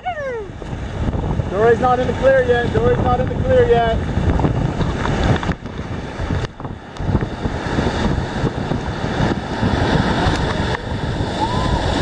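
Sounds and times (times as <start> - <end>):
whitewater rushing and splashing: 0.0 - 12.0
wind buffeting microphone: 0.0 - 12.0.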